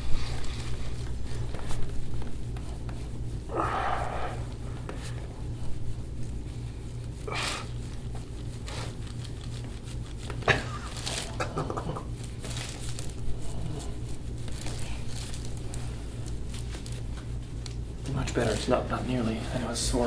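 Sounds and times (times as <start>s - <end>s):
rustling and rubbing on skin: 0.0s - 20.0s
steady low hum: 0.0s - 20.0s.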